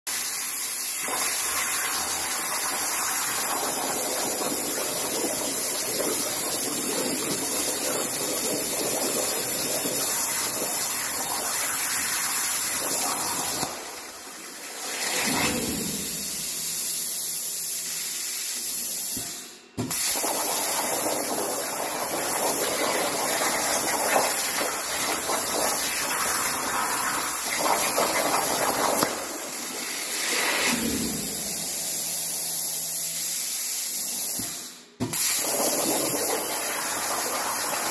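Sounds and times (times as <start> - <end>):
plasma cutter arc hissing: 0.1 - 37.9.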